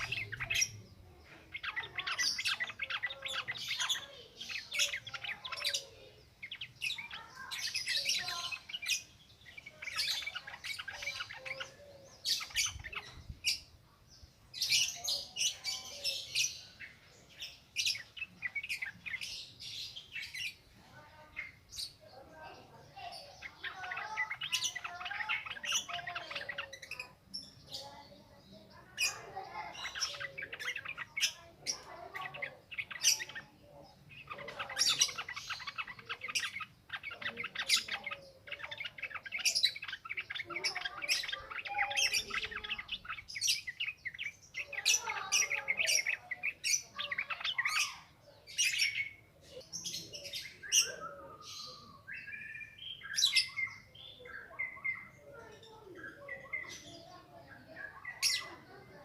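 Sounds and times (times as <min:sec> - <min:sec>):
birds chattering song: 0:00.0 - 0:59.0.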